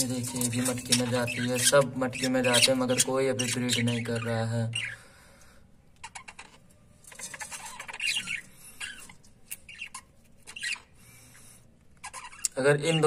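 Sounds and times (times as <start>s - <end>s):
budgerigars chirping and squawking: 0.0s - 5.2s, 6.0s - 13.0s.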